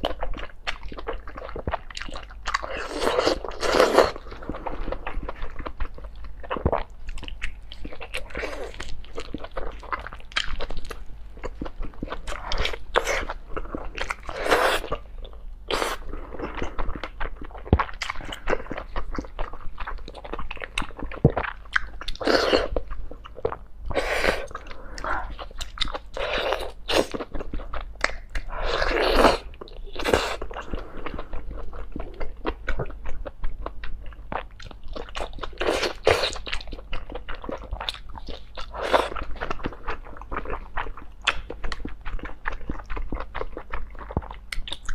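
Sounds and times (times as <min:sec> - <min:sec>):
close chewing and biting: 0:00.0 - 0:44.9.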